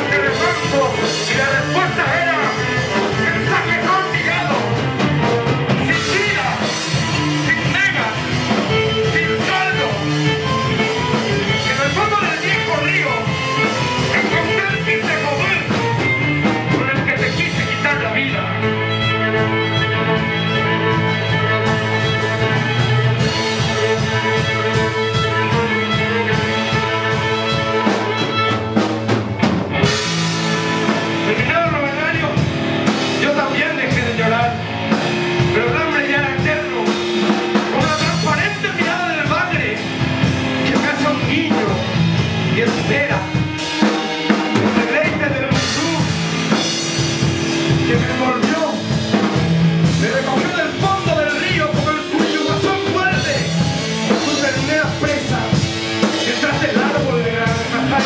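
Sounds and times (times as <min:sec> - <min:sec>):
bowed violin: 0:00.0 - 0:49.4
drum kit with cymbals: 0:00.0 - 0:58.0
electric guitar: 0:00.0 - 0:58.0.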